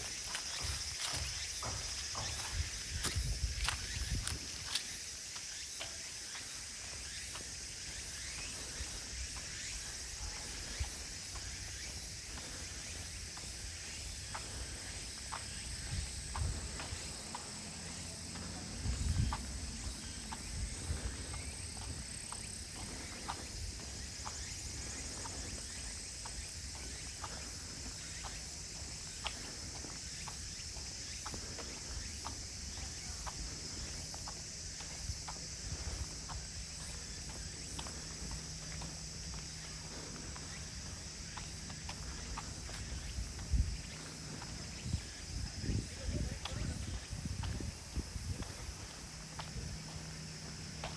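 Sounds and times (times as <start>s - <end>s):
footsteps on a path: 0.0s - 50.9s
high-pitched insect chorus: 0.0s - 50.9s.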